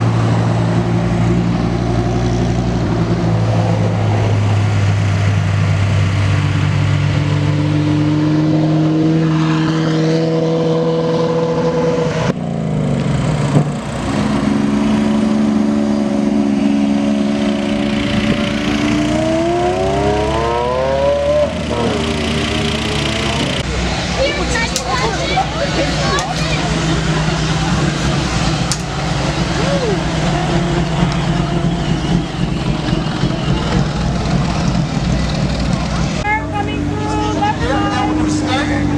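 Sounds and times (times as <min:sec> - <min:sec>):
engine revving: 0:00.0 - 0:38.9
sports car engines rolling by: 0:00.0 - 0:38.9.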